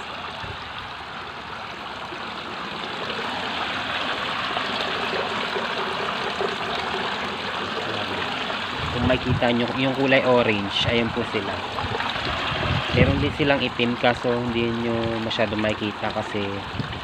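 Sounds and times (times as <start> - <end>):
water pouring into pond: 0.0 - 17.0.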